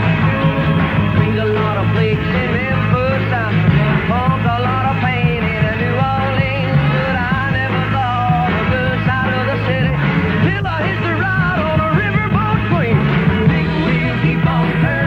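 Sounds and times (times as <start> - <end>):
band music with singing: 0.0 - 15.0.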